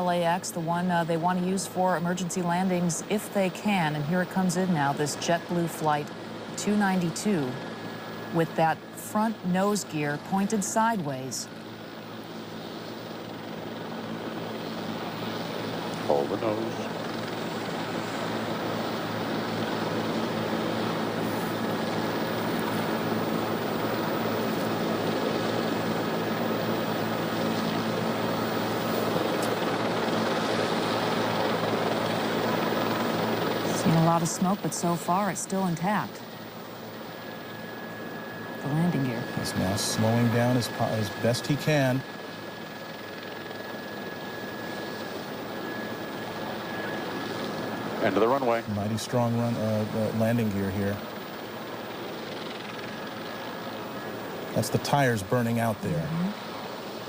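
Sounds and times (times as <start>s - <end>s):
faint high whine: 0.0s - 57.0s
helicopter engine and rotor drone: 0.0s - 57.0s.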